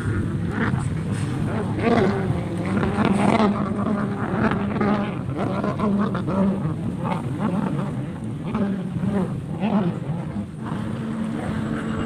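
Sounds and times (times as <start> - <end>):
jet ski engines droning: 0.0 - 12.0.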